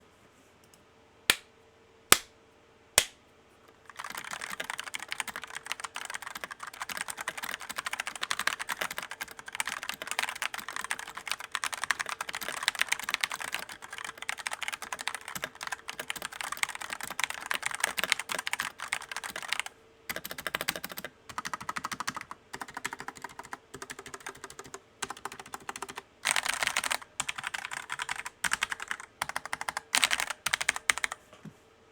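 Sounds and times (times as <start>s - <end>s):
mechanical keyboard typing: 3.7s - 31.2s.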